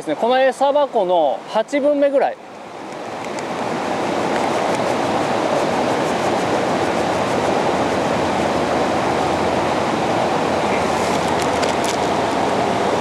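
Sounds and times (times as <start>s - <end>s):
river water over rapids: 0.0s - 13.0s.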